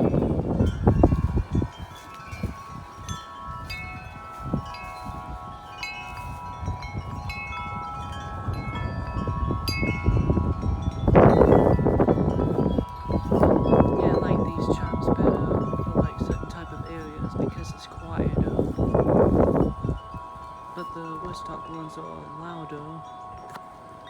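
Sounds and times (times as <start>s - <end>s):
wind buffeting microphone: 0.0s - 24.0s
wind chimes ringing: 0.0s - 24.0s.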